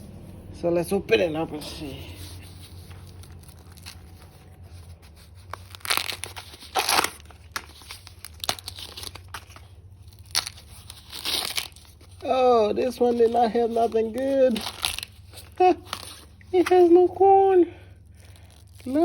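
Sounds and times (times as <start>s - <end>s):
corn husks ripping and rustling: 1.7s - 19.0s.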